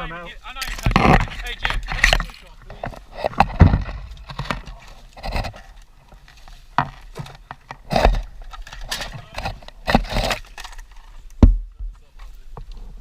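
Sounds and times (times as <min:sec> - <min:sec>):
crunching in dry leaves and brush: 0:00.4 - 0:11.3.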